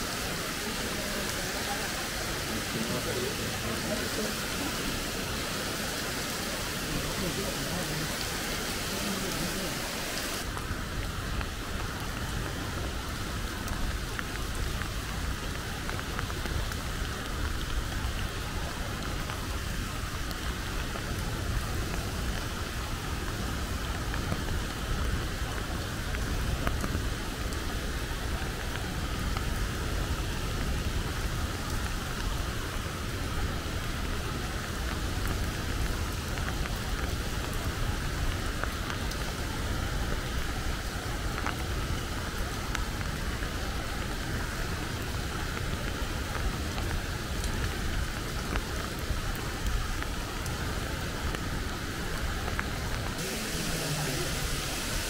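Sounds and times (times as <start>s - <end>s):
rain on leaves and stone: 0.0s - 55.0s
raindrops ticking: 0.1s - 55.0s.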